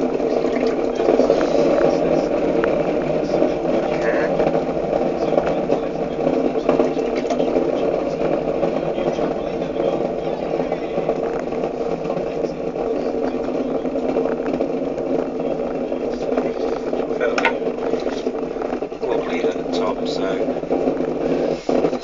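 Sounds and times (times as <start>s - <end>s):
potter's wheel motor hum: 0.0s - 22.0s.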